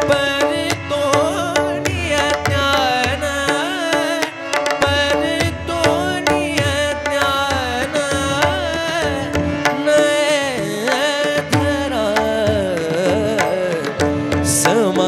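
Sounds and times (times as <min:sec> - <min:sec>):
tabla strokes: 0:00.0 - 0:15.0.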